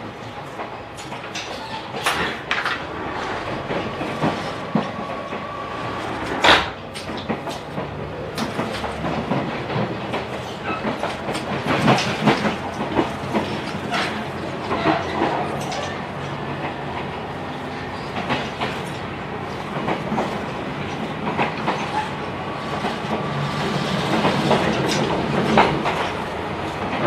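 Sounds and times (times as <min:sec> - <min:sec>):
train wheels clacking over rail joints: 0:00.5 - 0:27.0.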